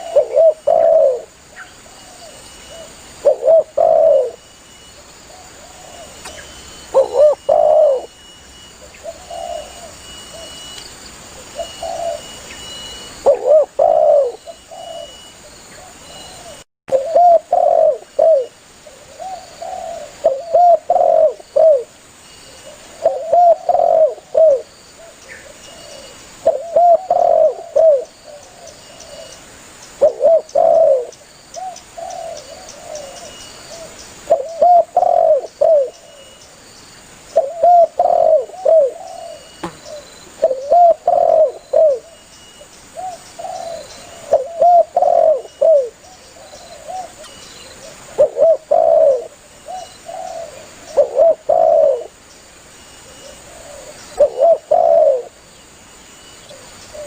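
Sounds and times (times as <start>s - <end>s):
dove cooing: 0.0s - 4.4s, 5.3s - 8.2s, 8.8s - 10.6s, 11.4s - 12.5s, 13.2s - 21.9s, 22.5s - 29.4s, 30.0s - 36.4s, 37.4s - 42.2s, 43.0s - 52.2s, 53.0s - 55.4s, 56.4s - 57.0s.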